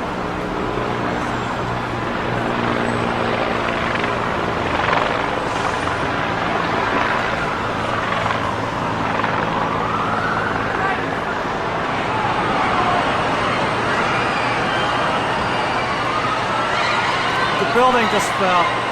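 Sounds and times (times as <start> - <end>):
siren sweeping up and down: 2.8 - 18.9.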